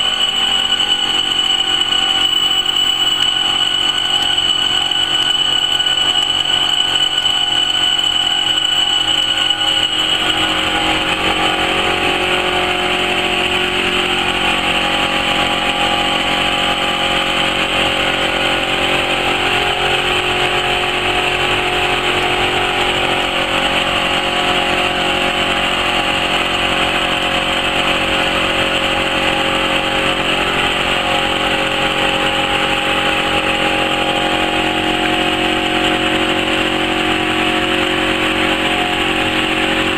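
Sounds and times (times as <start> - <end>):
high whine: 0.0 - 39.9
laser cutting machine hum: 0.0 - 39.9.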